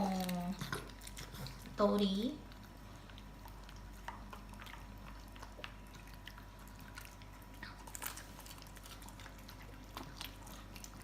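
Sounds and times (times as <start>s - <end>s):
dogs chewing: 0.0s - 11.0s.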